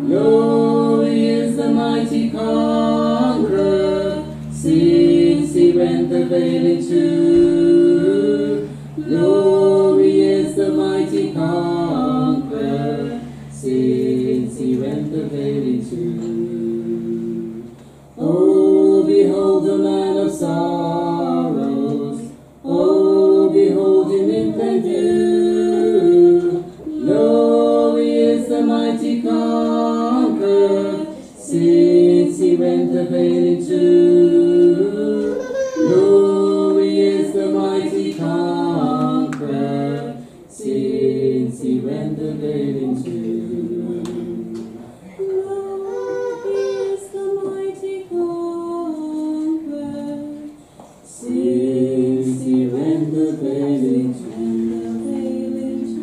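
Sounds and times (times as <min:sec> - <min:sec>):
man and woman singing a hymn: 0:00.0 - 0:56.0.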